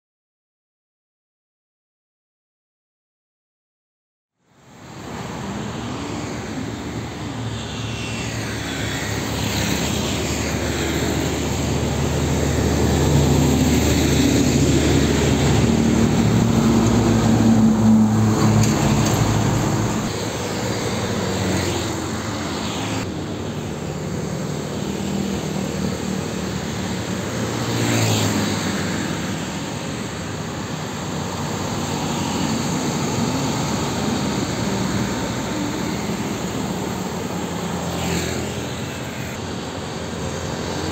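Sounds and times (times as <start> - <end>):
truck and bus engines droning: 4.5 - 40.9
motorcycles passing: 4.6 - 40.9
tyre noise on road: 4.6 - 40.9.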